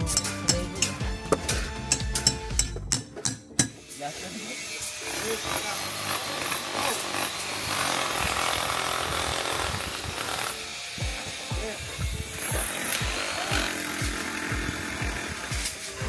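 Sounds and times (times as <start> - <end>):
noisy rasp: 0.0 - 16.0.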